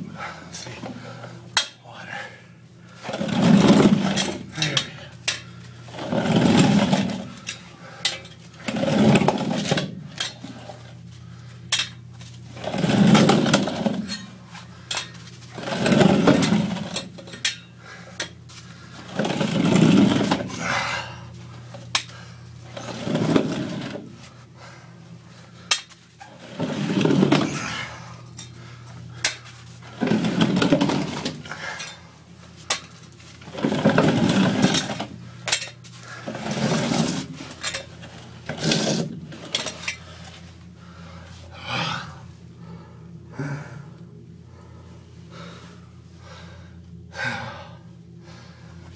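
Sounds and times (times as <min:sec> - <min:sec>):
scraping and heavy effort: 0:00.0 - 0:46.6
low steady hum: 0:00.0 - 0:48.9.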